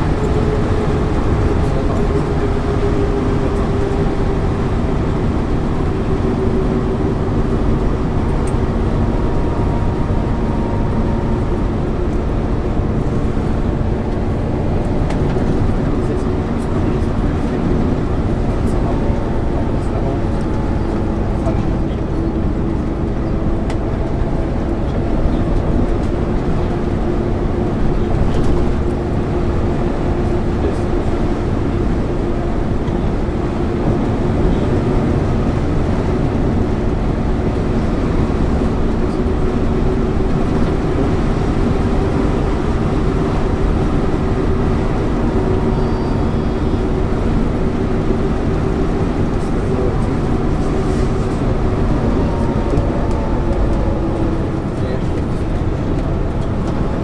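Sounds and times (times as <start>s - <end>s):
bus engine and road drone: 0.0s - 57.0s
constant low hum: 0.0s - 57.0s.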